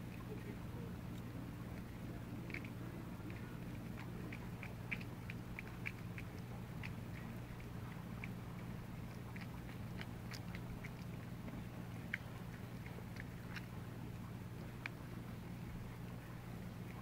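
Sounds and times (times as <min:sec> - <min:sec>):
cats chewing and lapping food: 0:00.0 - 0:17.0
steady low hum: 0:00.0 - 0:17.0.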